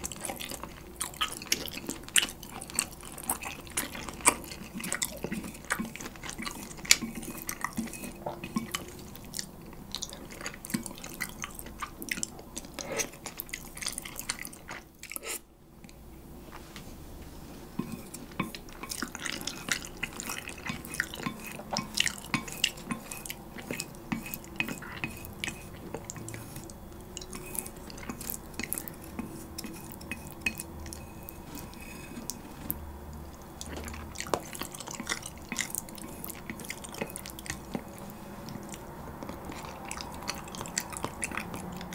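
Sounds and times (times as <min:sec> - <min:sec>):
wet chewing and smacking: 0:00.0 - 0:16.0, 0:17.9 - 0:41.9.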